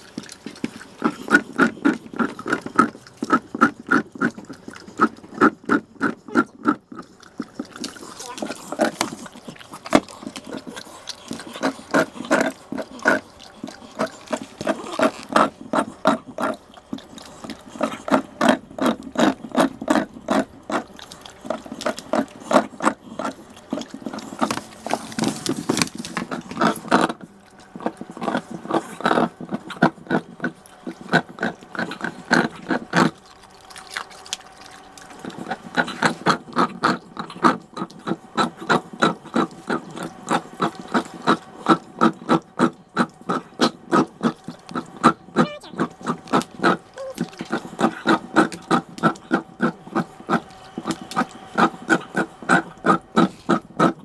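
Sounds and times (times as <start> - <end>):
dog licking and chewing ice: 0.0 - 54.0.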